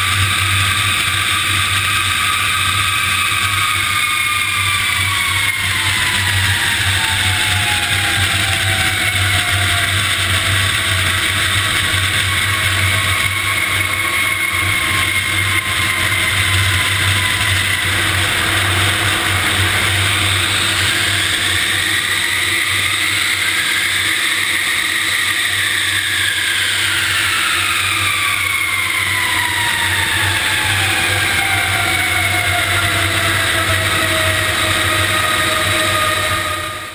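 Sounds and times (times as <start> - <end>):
engine whine: 0.0 - 36.9
jet engines running: 0.0 - 36.9.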